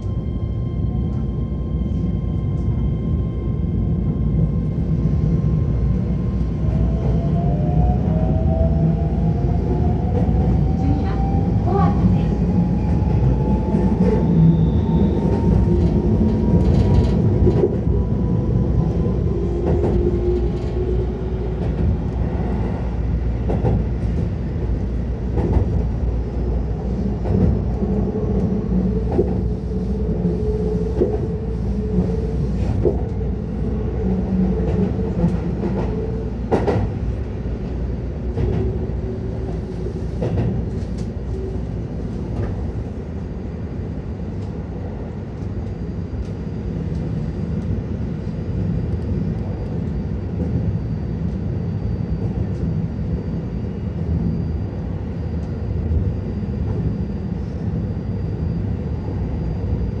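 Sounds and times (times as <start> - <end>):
wheels rumbling on rail: 0.0 - 60.0.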